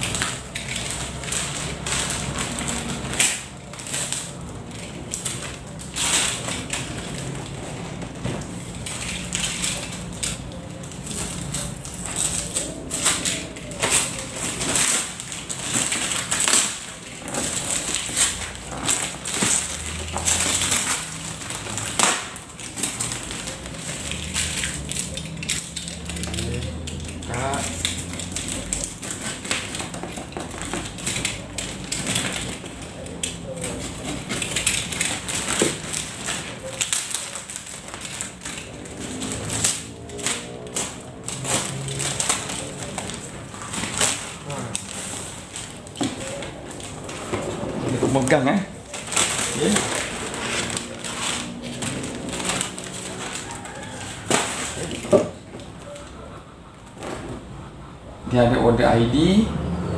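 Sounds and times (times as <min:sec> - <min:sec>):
plastic bag crinkling and tearing: 0:00.0 - 0:56.1.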